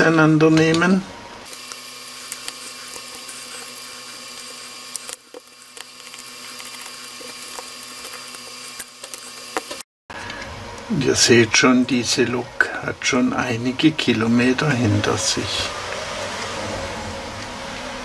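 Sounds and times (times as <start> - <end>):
steady hum and hiss: 0.0 - 18.0.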